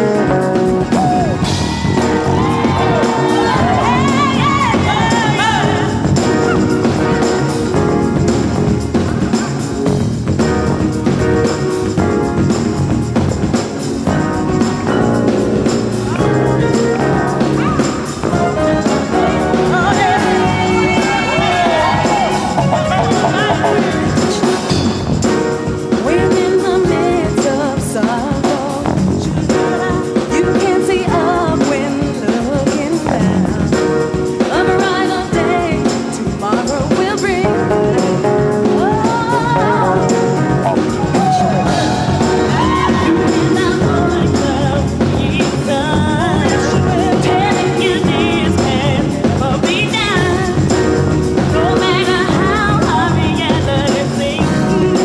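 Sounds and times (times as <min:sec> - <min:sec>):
gospel vocal group singing: 0:00.0 - 0:10.0, 0:13.8 - 0:55.0
full band accompaniment: 0:00.0 - 0:55.0.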